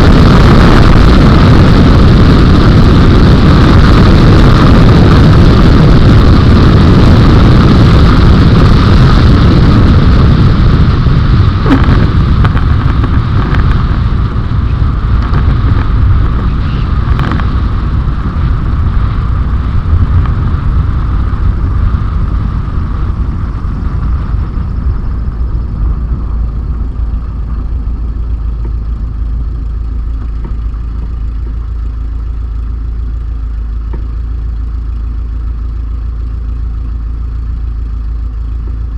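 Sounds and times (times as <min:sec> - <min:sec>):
light aircraft engine and propeller: 0:00.0 - 0:38.9.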